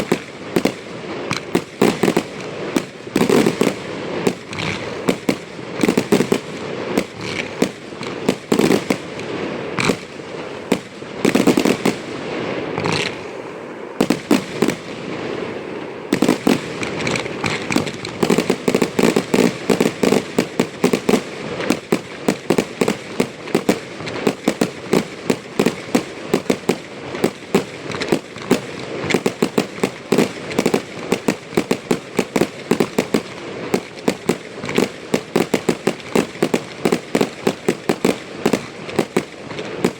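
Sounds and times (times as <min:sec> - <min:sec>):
firework shells bursting: 0:00.0 - 0:39.9
fireworks crackling: 0:00.0 - 0:39.9.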